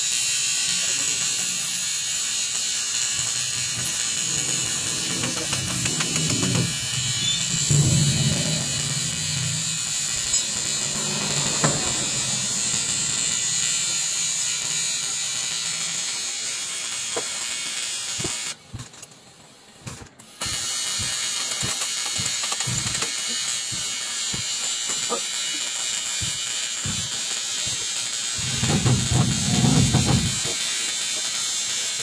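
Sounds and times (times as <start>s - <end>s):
welding arc buzzing: 0.8s - 18.5s, 20.3s - 31.5s.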